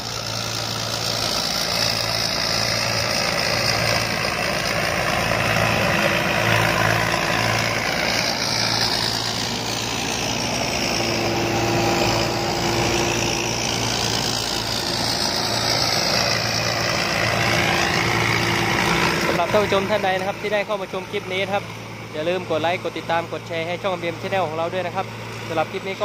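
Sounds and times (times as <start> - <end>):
steady higher hum: 0.0 - 25.2
combine harvester engine running: 0.0 - 26.0.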